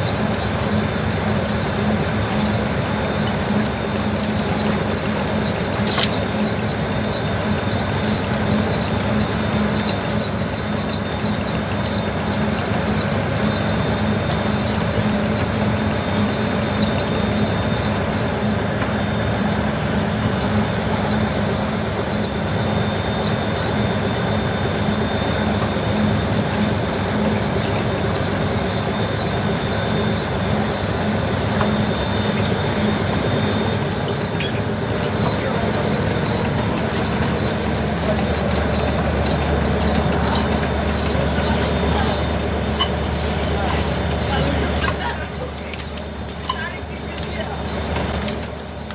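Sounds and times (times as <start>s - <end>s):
high pulsing squeak: 0.0s - 48.9s
machines running mechanically: 0.0s - 48.9s.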